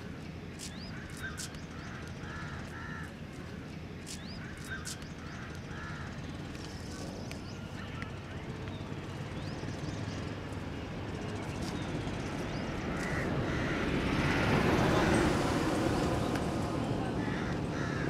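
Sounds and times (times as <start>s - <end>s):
birds calling: 0.0s - 10.4s, 11.3s - 15.2s, 17.2s - 18.0s.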